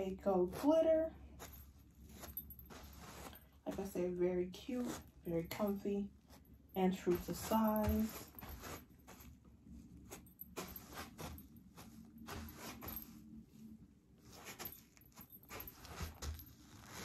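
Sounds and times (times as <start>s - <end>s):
footsteps on artificial turf: 0.3s - 13.3s, 14.2s - 17.0s.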